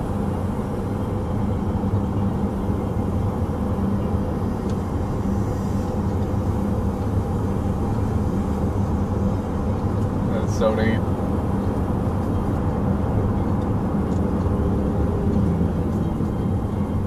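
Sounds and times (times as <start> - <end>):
road and tyre noise in car: 0.0 - 17.0.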